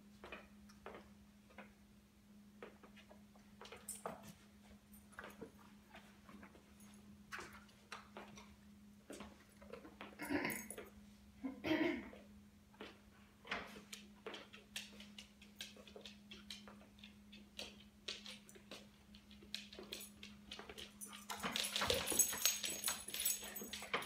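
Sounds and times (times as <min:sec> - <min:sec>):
dog claws tapping on floor: 0:00.2 - 0:01.7, 0:02.6 - 0:10.9, 0:12.8 - 0:24.0.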